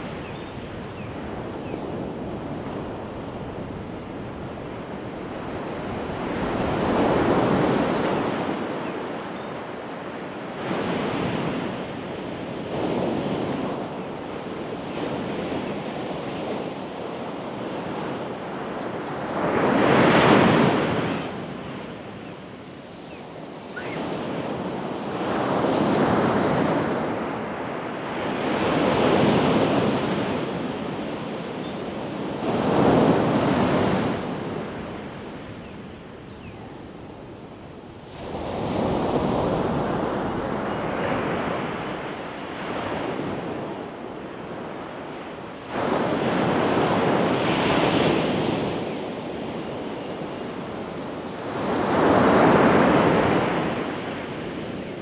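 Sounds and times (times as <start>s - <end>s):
ocean surf breaking on beach: 4.7s - 22.2s, 23.6s - 35.6s, 38.1s - 55.0s.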